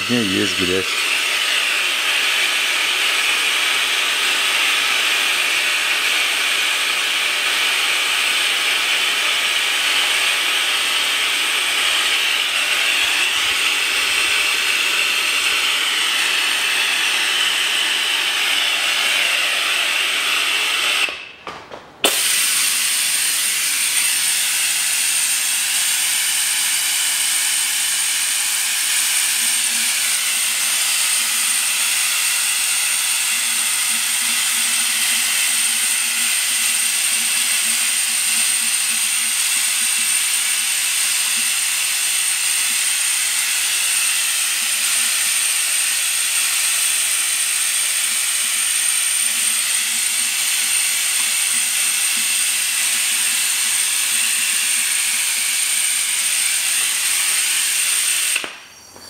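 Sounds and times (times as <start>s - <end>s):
suction pump hissing: 0.0s - 21.3s, 22.0s - 59.0s.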